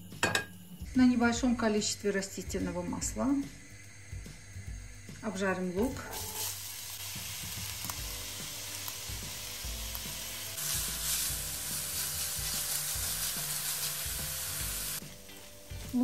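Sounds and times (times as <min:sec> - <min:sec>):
onion sizzling in oil: 0:03.1 - 0:16.0.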